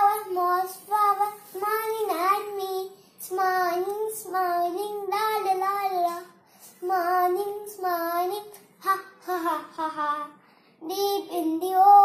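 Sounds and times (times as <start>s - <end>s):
boy singing: 0.0s - 12.0s.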